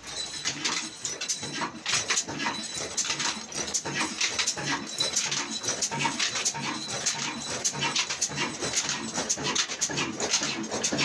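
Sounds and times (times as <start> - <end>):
clattering mechanical ticks: 0.0 - 11.0.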